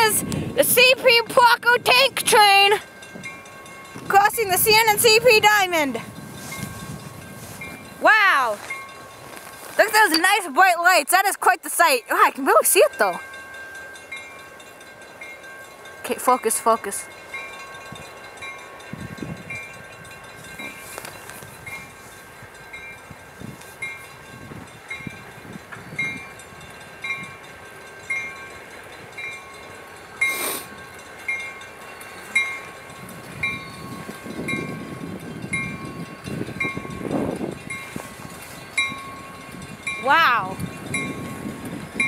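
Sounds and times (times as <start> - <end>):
level-crossing warning bell: 0.0 - 42.0.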